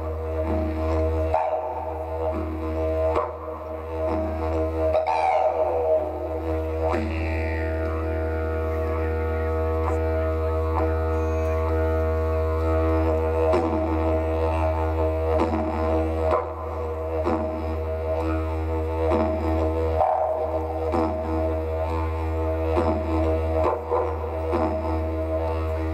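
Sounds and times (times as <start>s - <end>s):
didgeridoo drone: 0.0s - 25.9s.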